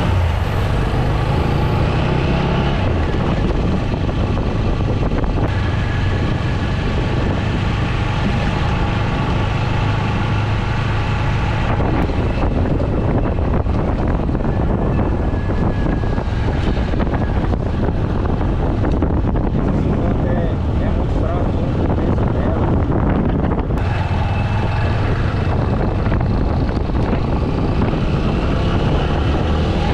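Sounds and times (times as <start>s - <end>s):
motorcycle engine running: 0.0s - 29.9s
wind noise on microphone: 0.0s - 29.9s.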